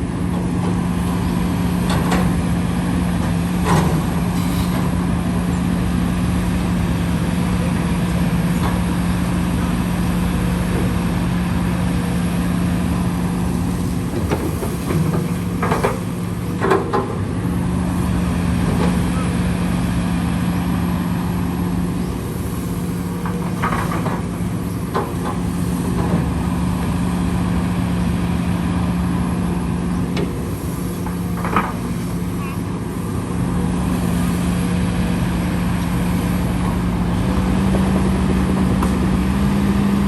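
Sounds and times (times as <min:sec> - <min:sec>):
heavy machinery engine running: 0:00.0 - 0:40.0.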